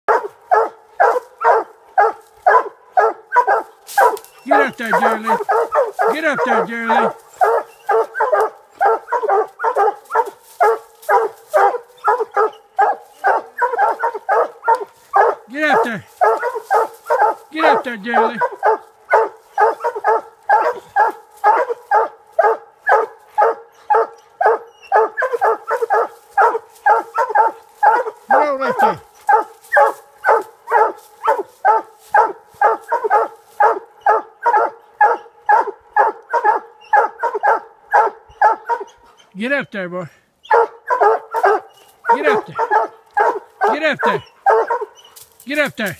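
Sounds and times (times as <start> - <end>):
dog barking rapidly: 0.1 - 39.1, 40.5 - 45.9.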